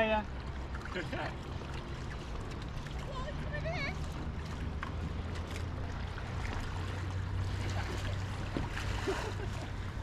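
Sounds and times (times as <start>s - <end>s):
gentle water sounds: 0.0s - 10.0s.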